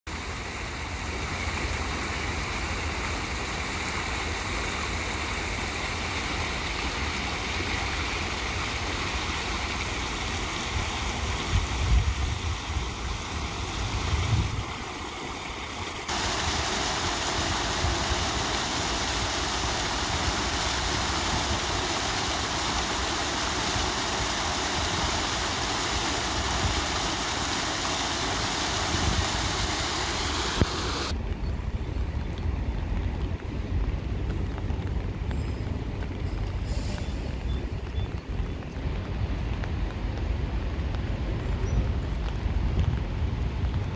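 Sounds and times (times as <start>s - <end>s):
fountain water splashing: 0.1s - 43.9s.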